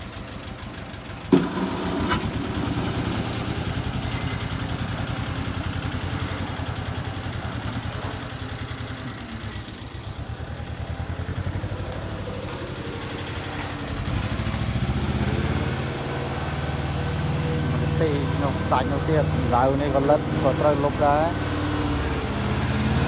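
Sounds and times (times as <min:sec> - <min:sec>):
wheel loader engine running: 0:00.0 - 0:23.0.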